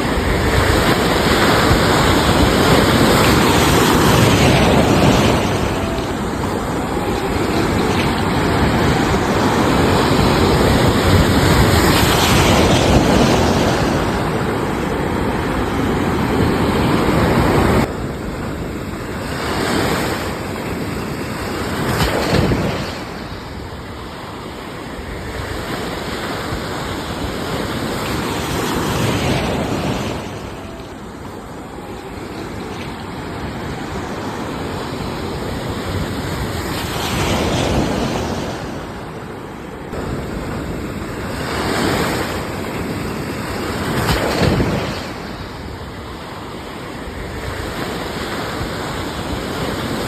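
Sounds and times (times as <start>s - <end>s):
sea waves washing onto shore: 0.0s - 50.0s.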